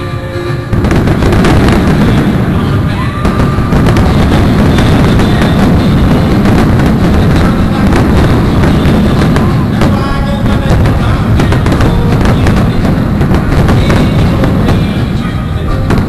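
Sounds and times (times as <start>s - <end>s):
fireworks bangs and crackles: 0.0s - 16.0s
fireworks rumble: 0.0s - 16.0s.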